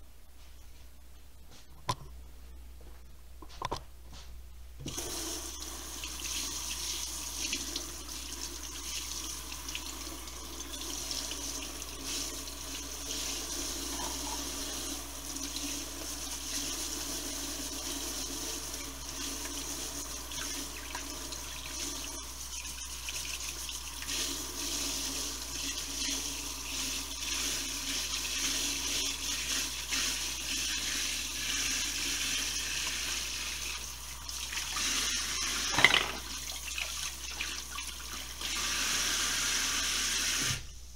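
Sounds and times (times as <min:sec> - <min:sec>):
faucet water running into sink: 0:04.9 - 0:40.6.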